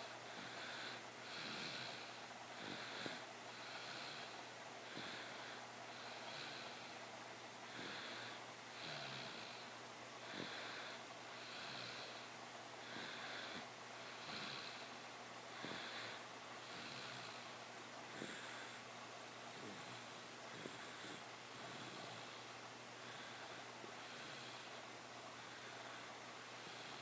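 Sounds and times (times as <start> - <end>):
soft snoring: 0.0 - 7.1, 7.7 - 18.9, 19.5 - 27.0.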